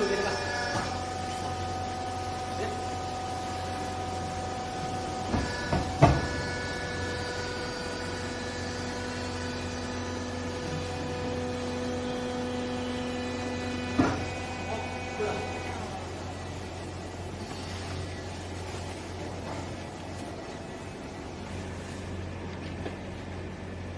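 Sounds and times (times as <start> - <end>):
hydraulic baler humming: 0.0 - 23.9.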